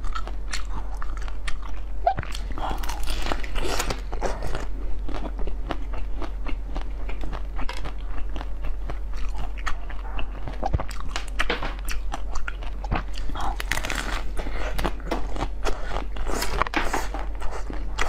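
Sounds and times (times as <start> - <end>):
crunchy ice chewing: 0.0 - 18.0.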